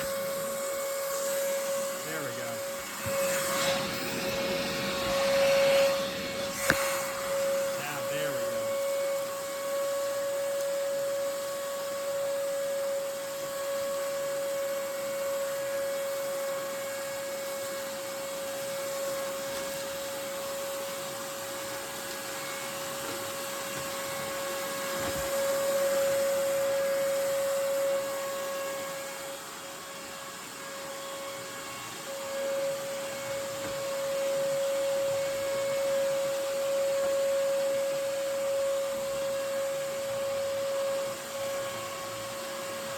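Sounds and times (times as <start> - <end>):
shop vacuum motor whine: 0.0 - 42.9.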